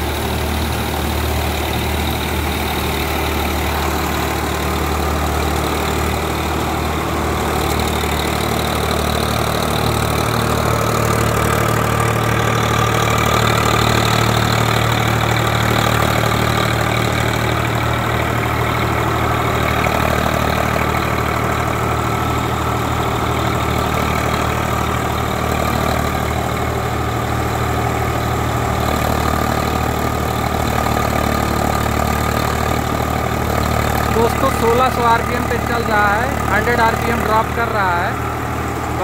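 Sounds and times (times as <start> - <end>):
threshing machine running: 0.0 - 39.0
tractor diesel engine running: 0.0 - 39.0.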